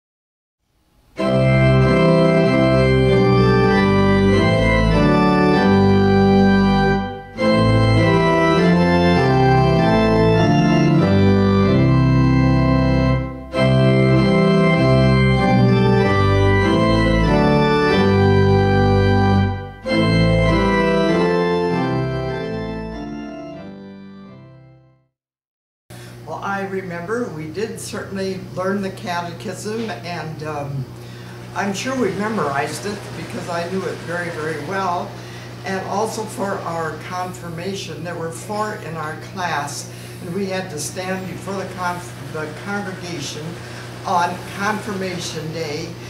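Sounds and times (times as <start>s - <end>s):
organ playing sustained chords: 1.1s - 24.9s, 26.2s - 46.0s.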